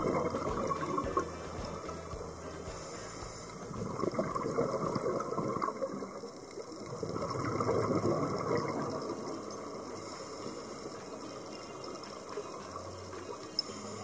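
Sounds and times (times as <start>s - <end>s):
underwater regulator bubbles gurgling: 0.0s - 14.0s.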